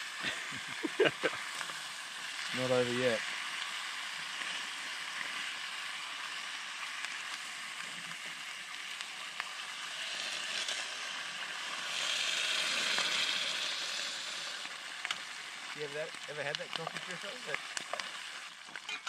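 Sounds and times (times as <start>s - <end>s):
campfire hiss: 0.0s - 19.0s.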